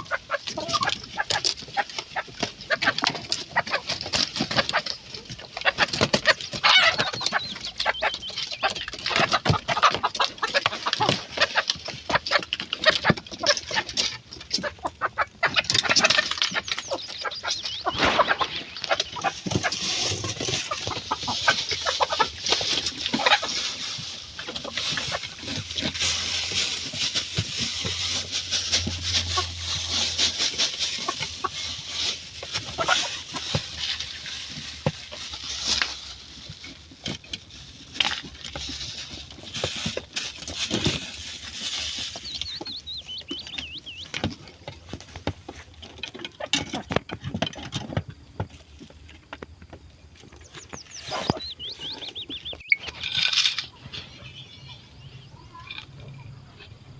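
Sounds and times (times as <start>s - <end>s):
small clicks and crackles: 0.0s - 54.0s
chickens clucking: 0.0s - 56.9s.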